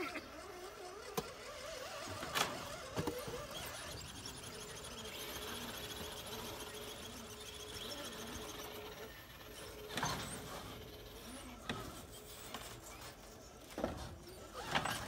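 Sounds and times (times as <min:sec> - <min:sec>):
electric motor and gears whirring: 0:00.0 - 0:15.0.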